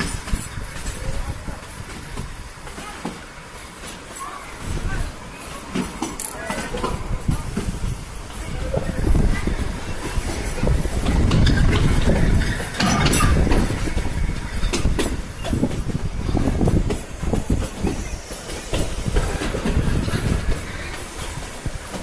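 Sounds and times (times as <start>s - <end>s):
train rumbling: 0.0s - 22.0s
wheels clacking over rail joints: 0.0s - 22.0s.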